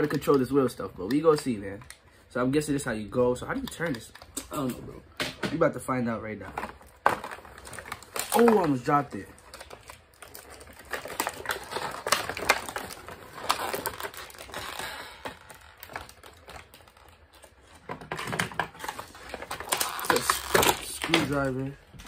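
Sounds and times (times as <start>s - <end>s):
plastic packaging crinkling and clicking: 0.0s - 2.1s, 3.3s - 5.6s, 6.4s - 22.0s.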